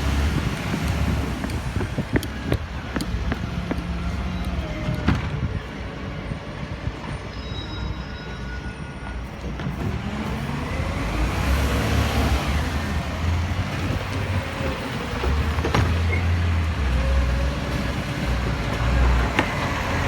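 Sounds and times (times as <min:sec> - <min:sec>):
garbage truck diesel engine rumbling: 0:00.0 - 0:20.0
road noise: 0:00.0 - 0:20.0.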